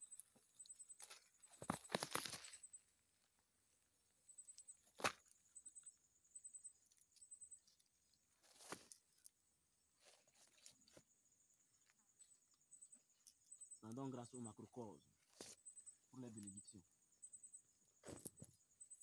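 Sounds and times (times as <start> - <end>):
faint high-pitched chirping: 0.0 - 19.0.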